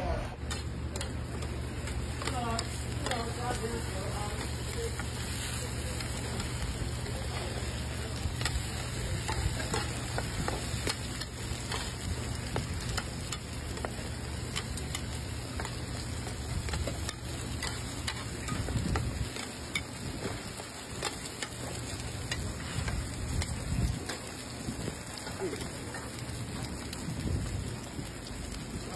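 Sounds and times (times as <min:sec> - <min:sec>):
food sizzling on a griddle: 0:00.0 - 0:28.9.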